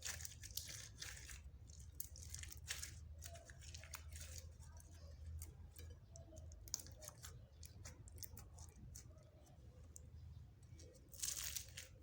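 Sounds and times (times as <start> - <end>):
slime mixed by hand: 0.0 - 12.0
squishing crackle: 0.0 - 12.0.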